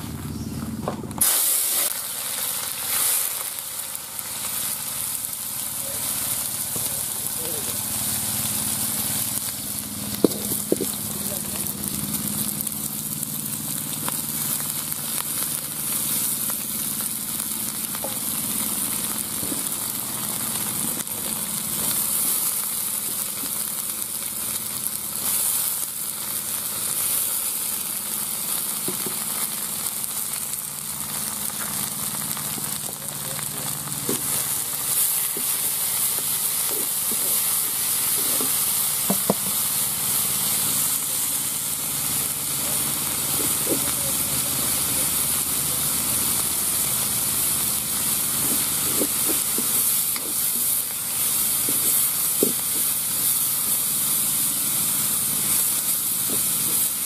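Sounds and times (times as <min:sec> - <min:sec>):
onions sizzling in oil: 0:01.2 - 0:57.0.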